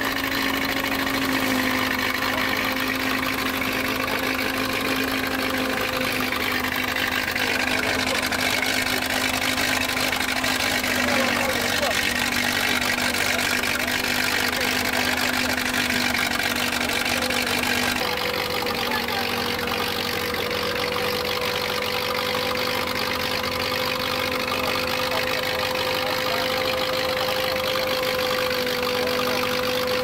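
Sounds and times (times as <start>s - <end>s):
stationary engine humming: 0.0s - 30.0s.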